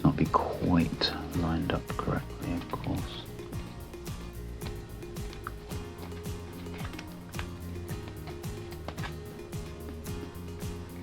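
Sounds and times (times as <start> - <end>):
background music with a beat: 0.0 - 11.0.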